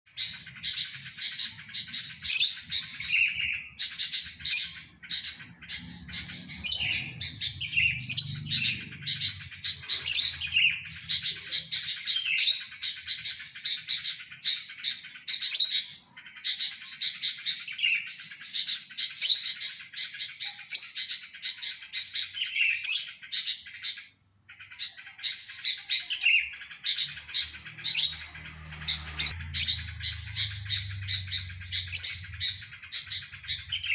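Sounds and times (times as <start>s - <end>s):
bird chirping and singing: 0.1s - 33.9s.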